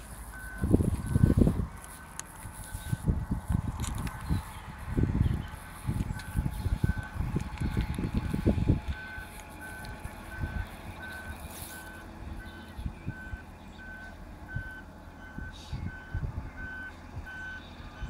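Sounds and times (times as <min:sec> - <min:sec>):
low engine rumble: 0:00.0 - 0:18.0
truck backup alarm beeping: 0:00.0 - 0:18.0.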